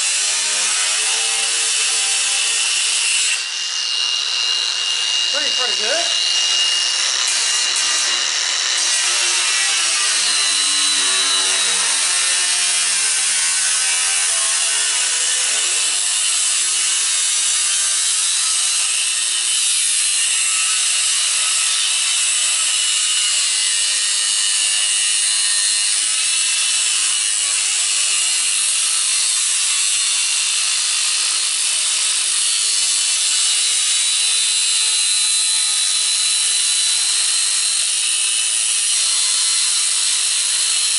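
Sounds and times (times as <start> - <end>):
angle grinder cutting metal: 0.0 - 40.9.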